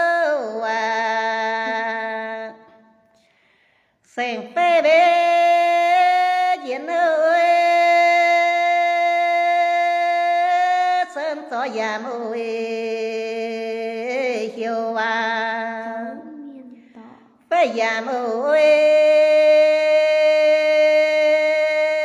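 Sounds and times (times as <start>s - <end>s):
woman singing unaccompanied: 0.0s - 3.0s, 4.1s - 16.8s, 17.4s - 22.0s.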